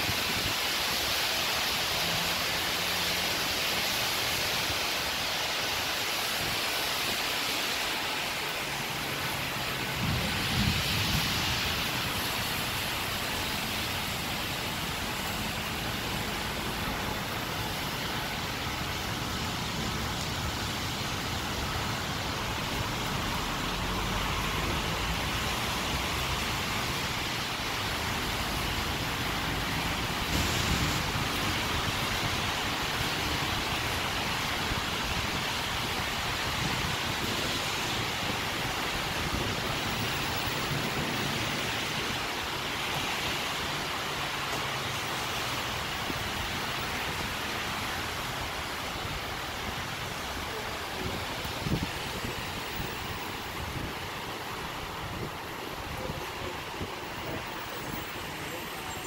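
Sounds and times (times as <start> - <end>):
steady heavy rain: 0.0 - 59.0
traffic on wet roads: 0.0 - 59.0.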